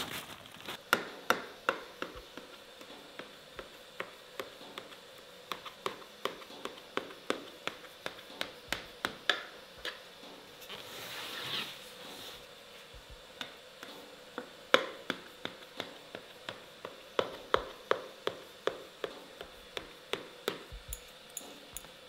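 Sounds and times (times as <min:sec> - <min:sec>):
utensil tapping hard surface: 0:00.8 - 0:10.0, 0:13.4 - 0:22.0.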